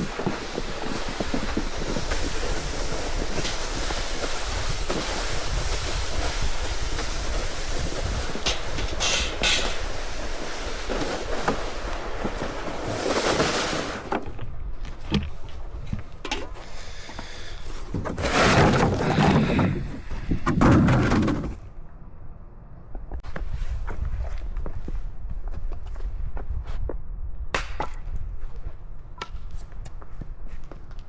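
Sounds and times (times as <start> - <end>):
wind buffeting microphone: 0.0 - 13.2, 14.3 - 30.8.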